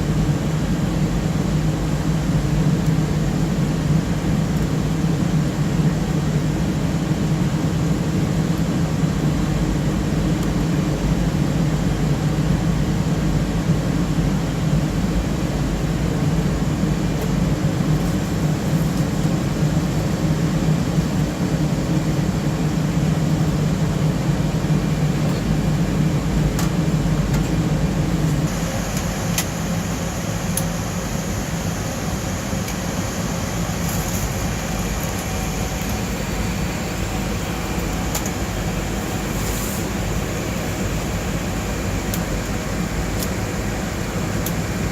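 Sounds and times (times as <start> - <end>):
cooling fans whirring: 0.0 - 44.9.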